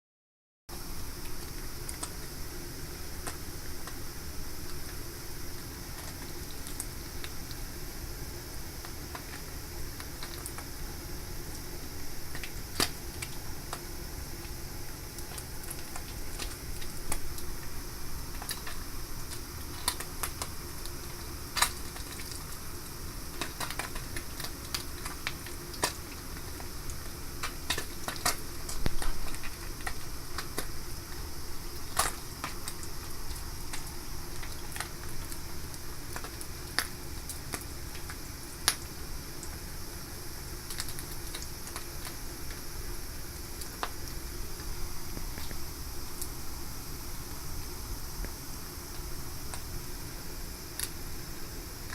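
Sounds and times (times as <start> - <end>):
steady low hum: 0.7 - 51.9.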